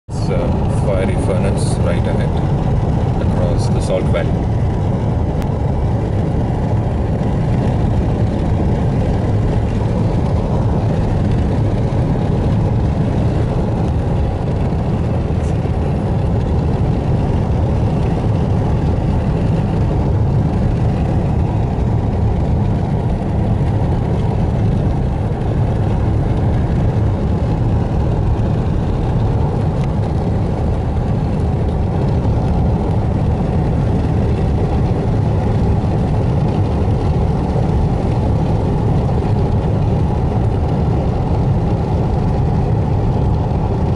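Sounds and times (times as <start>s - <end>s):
car driving from inside cabin: 0.1s - 43.9s.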